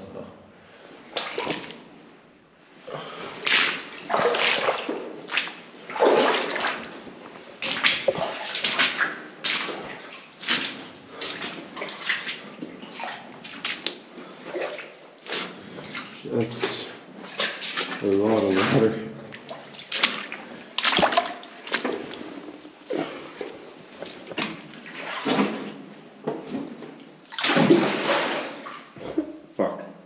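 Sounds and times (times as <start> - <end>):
footsteps splashing through water: 1.2 - 1.9, 3.4 - 25.9, 26.5 - 29.0.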